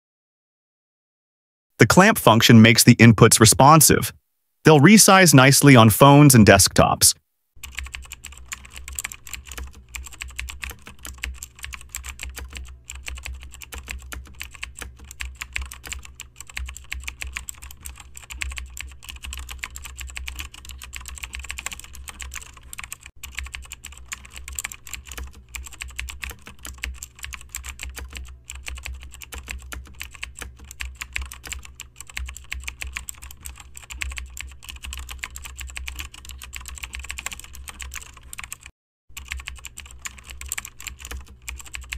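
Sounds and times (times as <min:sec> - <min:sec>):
rapid keyboard typing: 0:07.6 - 0:41.9.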